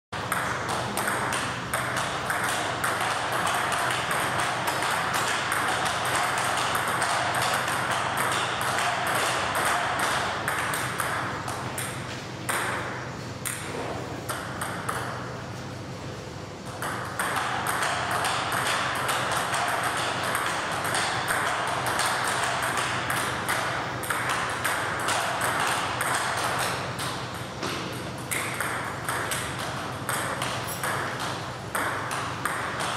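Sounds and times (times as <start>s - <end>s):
table tennis balls clicking: 0.2s - 13.7s, 16.7s - 32.9s.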